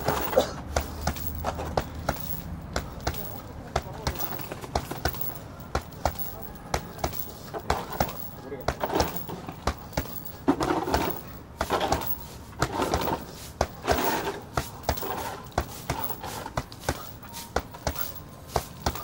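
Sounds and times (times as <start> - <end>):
gloves thudding on punching bag: 0.0 - 19.0.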